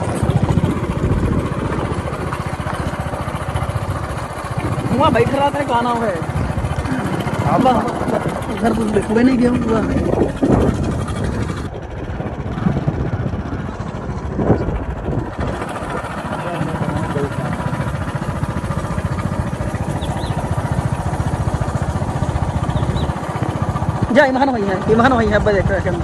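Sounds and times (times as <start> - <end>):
motorcycle engine running: 0.0 - 26.0
wind noise on microphone: 0.0 - 26.0.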